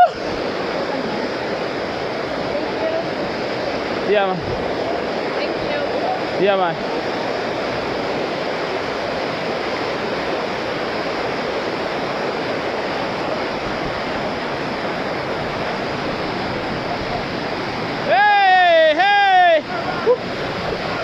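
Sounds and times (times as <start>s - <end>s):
waterfall pouring and splashing: 0.0s - 21.0s.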